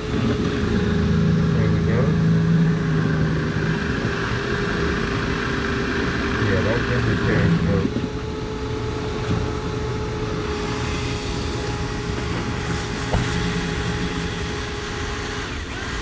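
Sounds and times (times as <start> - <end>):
motor humming with whine: 0.0 - 16.0.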